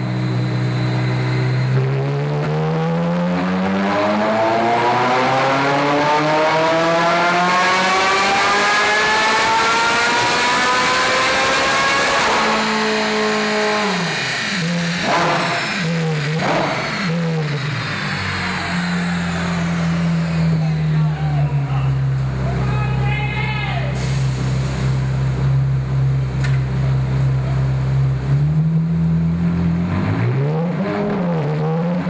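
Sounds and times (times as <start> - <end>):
sports car engine revving on dyno: 0.0 - 22.4, 24.0 - 32.0.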